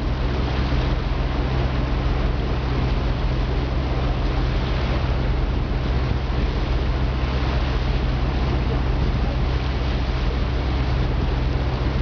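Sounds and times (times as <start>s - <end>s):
motorboat engine drone: 0.0s - 12.0s
rushing water: 0.0s - 12.0s
wind noise on microphone: 0.0s - 12.0s.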